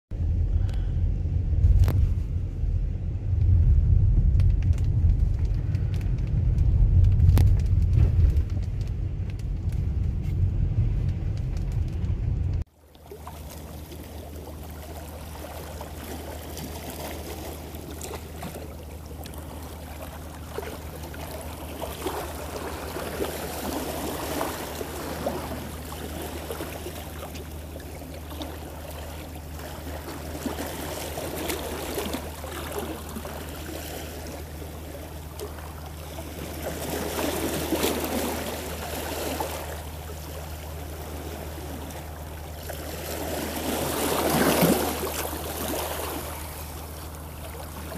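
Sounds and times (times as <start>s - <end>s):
boat engine humming: 0.1s - 47.9s
water splashing against hull: 0.2s - 47.9s.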